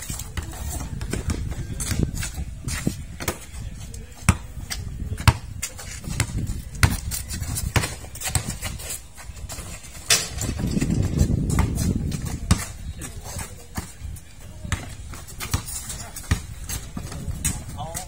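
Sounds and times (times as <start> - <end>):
basketball dribbled on concrete: 0.0 - 18.0
players' footsteps: 0.0 - 18.0.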